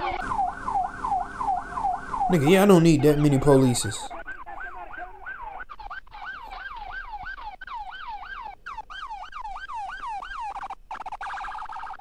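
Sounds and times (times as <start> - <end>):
police siren yelping: 0.0 - 12.0.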